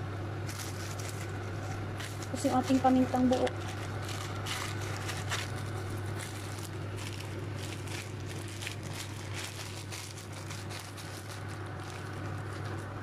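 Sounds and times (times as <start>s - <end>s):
gas burner hum: 0.0s - 13.0s.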